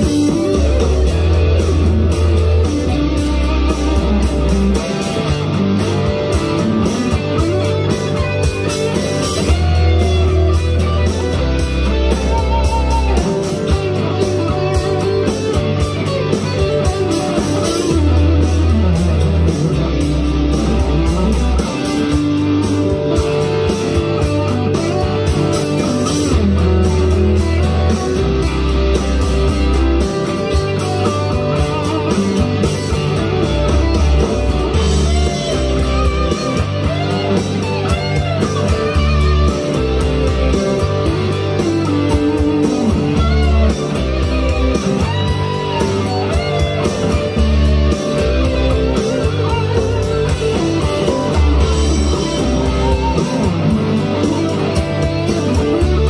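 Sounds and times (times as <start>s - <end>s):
electric guitar: 0.0s - 56.0s
southern rock backing track: 0.0s - 56.0s.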